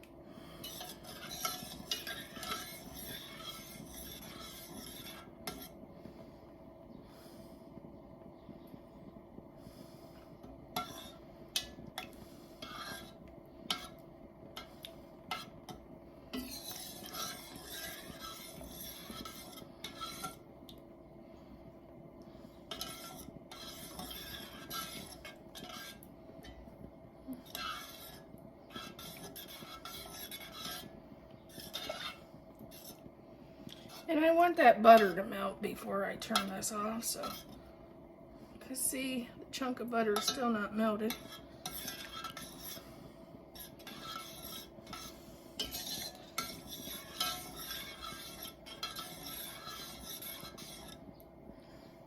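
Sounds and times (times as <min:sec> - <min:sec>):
faint steady hum: 0:00.0 - 0:52.0
spoon stirring in a pan: 0:00.0 - 0:52.0.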